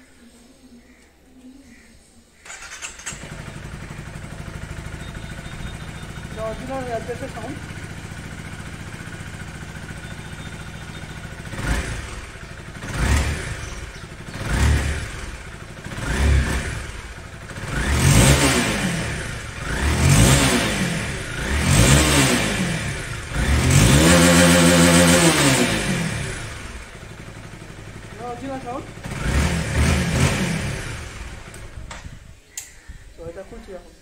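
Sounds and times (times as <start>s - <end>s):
motorcycle engine revving: 2.4s - 32.3s.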